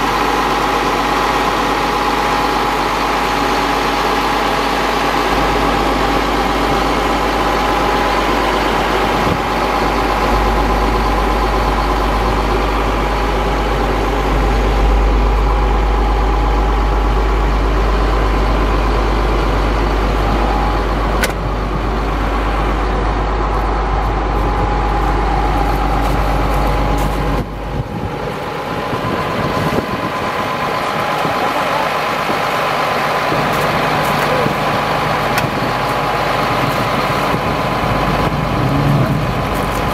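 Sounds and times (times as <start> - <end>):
deep low drone: 0.0 - 39.9
truck engine running: 0.0 - 39.9.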